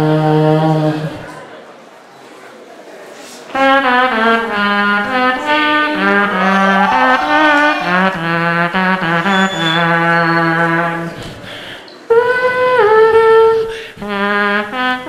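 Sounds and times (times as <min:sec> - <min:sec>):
vocal trumpet imitation: 0:00.0 - 0:01.4, 0:03.5 - 0:15.0.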